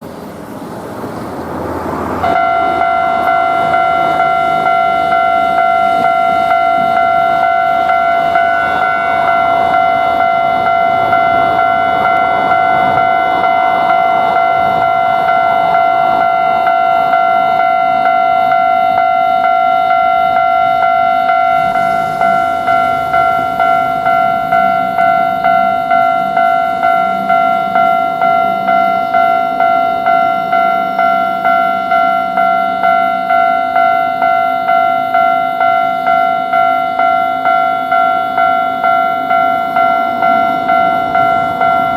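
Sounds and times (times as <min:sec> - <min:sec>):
level-crossing alarm bell ringing: 0:02.2 - 0:41.9.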